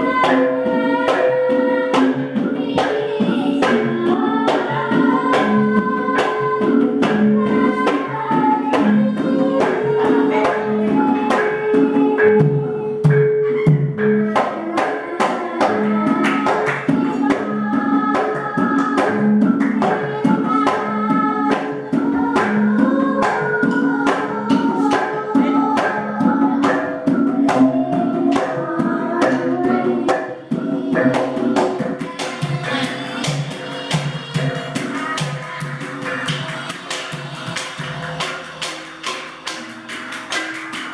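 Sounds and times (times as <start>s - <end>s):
girl singing through microphone: 0.0s - 37.2s
gamelan ensemble playing: 0.0s - 40.9s
hand drum: 0.0s - 40.9s.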